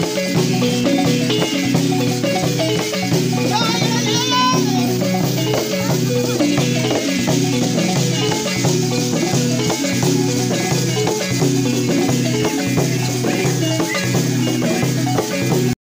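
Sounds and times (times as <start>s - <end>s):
xylophone fast repeating pattern: 0.0s - 15.8s.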